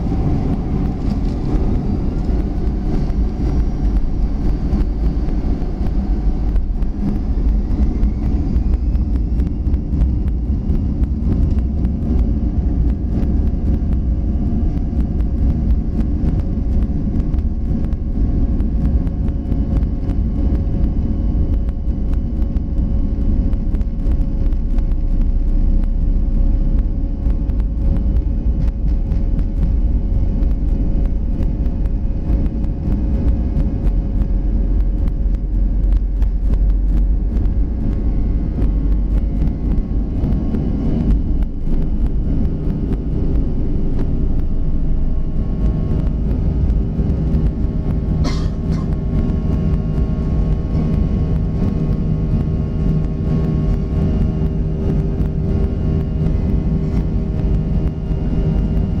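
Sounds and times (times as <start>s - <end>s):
jet engines at takeoff thrust: 0.0s - 59.0s
runway rumble: 0.0s - 59.0s.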